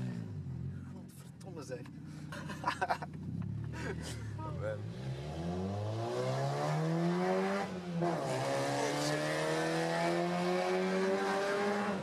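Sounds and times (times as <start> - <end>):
car engine accelerating: 1.9 - 12.0.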